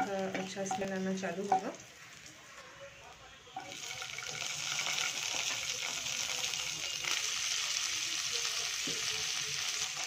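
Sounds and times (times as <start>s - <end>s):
vegetables sizzling in oil: 0.0s - 2.5s, 3.6s - 10.0s.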